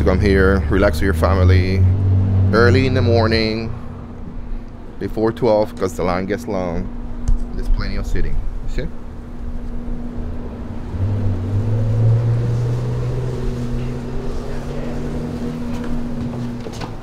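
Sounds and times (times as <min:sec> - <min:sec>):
large engine droning: 0:00.0 - 0:17.0
steady hum: 0:00.0 - 0:17.0.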